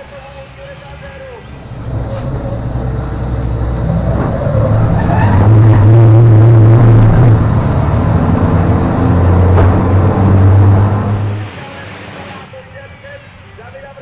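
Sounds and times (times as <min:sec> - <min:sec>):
diesel truck engine under load: 0:00.9 - 0:13.4.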